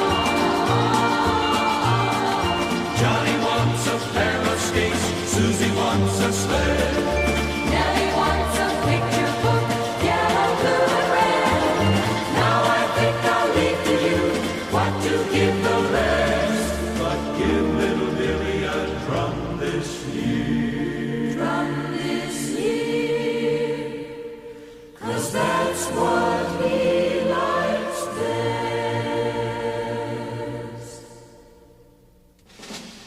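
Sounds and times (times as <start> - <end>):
choir singing held chords: 0.0 - 32.0.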